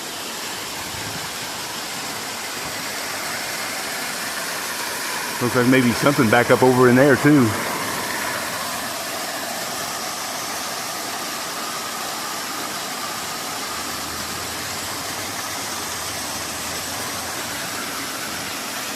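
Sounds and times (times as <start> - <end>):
rushing creek water: 0.0 - 18.9.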